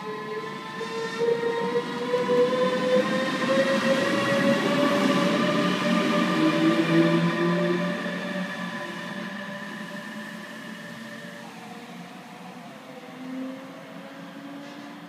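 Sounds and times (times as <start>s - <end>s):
electric locomotive whine: 0.0s - 15.0s.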